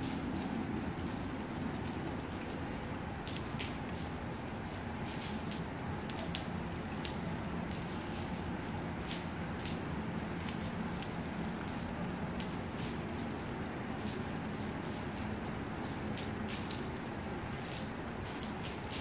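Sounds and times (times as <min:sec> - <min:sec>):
raindrops ticking: 0:00.0 - 0:19.0.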